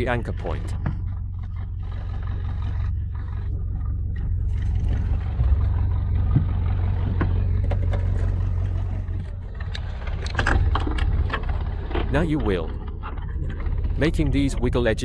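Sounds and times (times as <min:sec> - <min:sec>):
boat engine droning: 0:00.0 - 0:15.0
water noise: 0:00.0 - 0:15.0.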